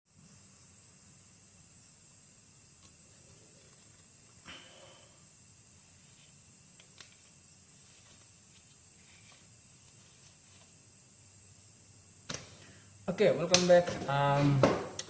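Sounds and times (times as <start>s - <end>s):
high-pitched hiss: 0.1s - 15.0s.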